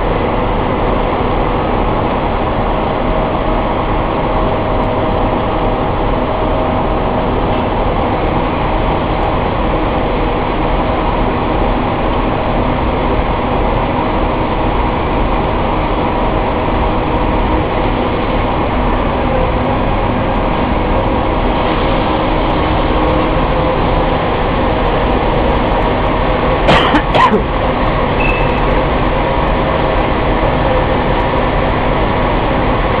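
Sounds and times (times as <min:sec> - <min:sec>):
production line machinery running: 0:00.0 - 0:33.0.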